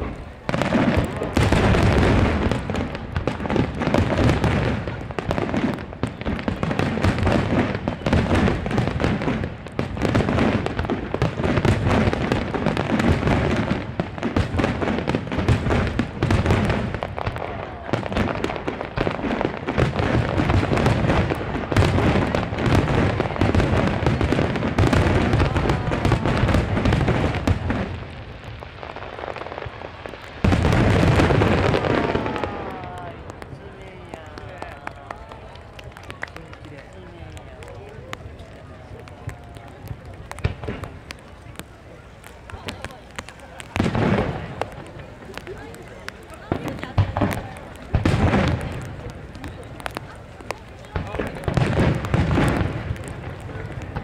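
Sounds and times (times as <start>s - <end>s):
fireworks booming and crackling: 0.0s - 54.0s.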